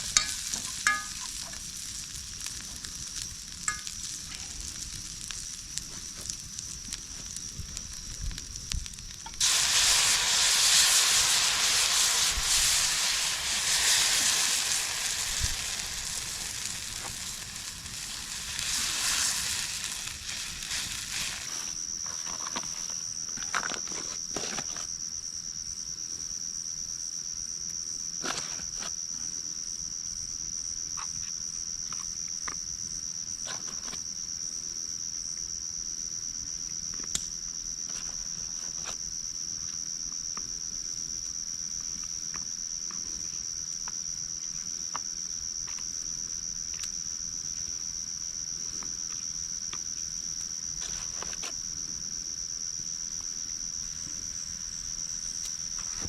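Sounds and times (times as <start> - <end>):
crickets chorus: 0.0 - 56.0.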